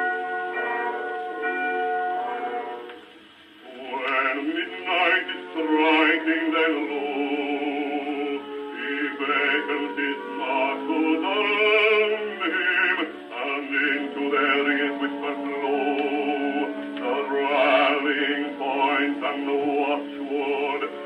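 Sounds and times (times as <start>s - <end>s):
bass voice singing with vibrato: 3.6s - 21.0s.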